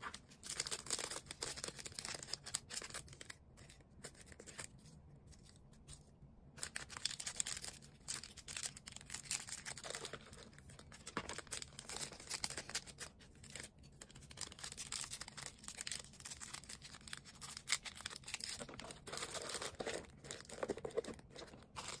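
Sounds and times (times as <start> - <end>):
plastic packaging crinkling: 0.0 - 5.6, 6.6 - 22.0.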